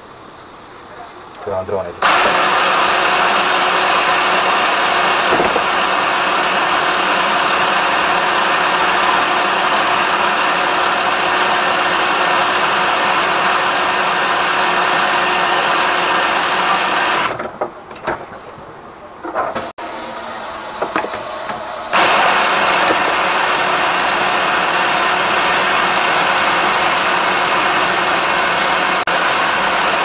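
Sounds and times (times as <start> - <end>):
drain cleaning machine motor: 1.5 - 17.4, 19.8 - 30.0.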